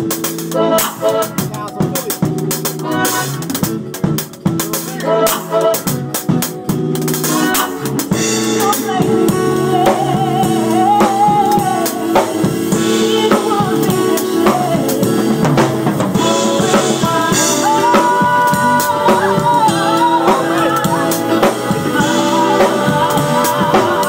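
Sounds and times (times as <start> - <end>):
drum kit beat: 0.0 - 24.0
sustained chords: 0.0 - 24.0
person singing: 0.5 - 3.9, 4.6 - 6.1, 7.2 - 24.0.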